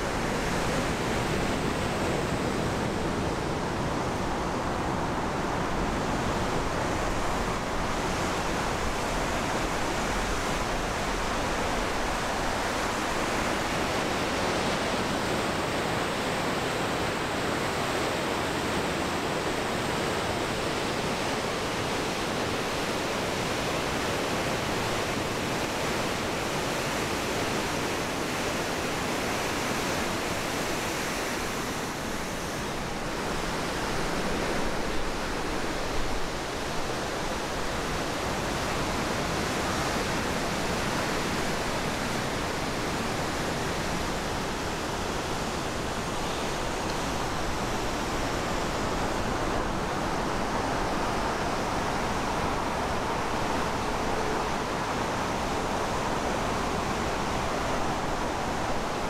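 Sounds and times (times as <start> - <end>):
water rushing over weir: 0.0 - 59.0.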